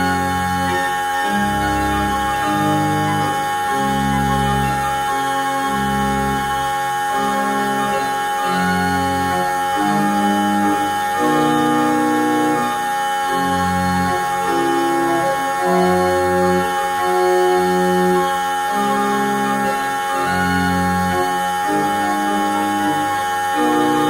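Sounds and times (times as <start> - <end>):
organ music: 0.0 - 24.0.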